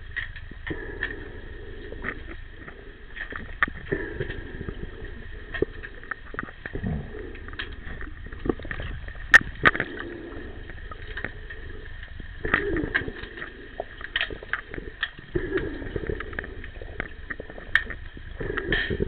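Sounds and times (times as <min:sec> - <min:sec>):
muffled underwater noise: 0:00.0 - 0:19.0
underwater clicks and knocks: 0:01.9 - 0:19.0.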